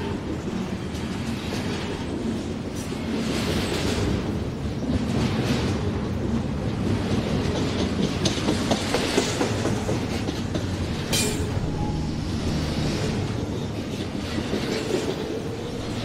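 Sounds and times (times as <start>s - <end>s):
train rumble: 0.0s - 16.0s
wheels clicking over rail joints: 0.1s - 16.0s.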